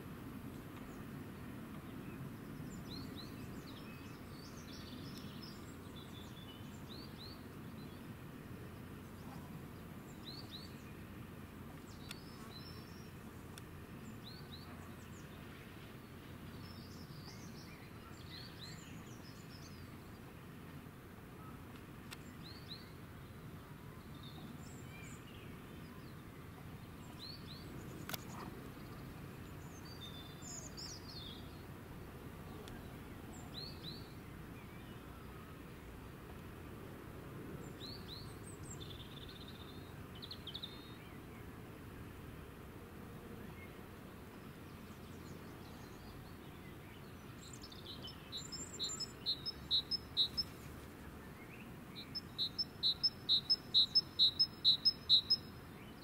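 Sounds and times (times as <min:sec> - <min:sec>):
small birds chirping: 0:00.5 - 0:20.4, 0:21.4 - 0:31.8, 0:32.4 - 0:36.0, 0:37.6 - 0:41.6, 0:43.4 - 0:56.0.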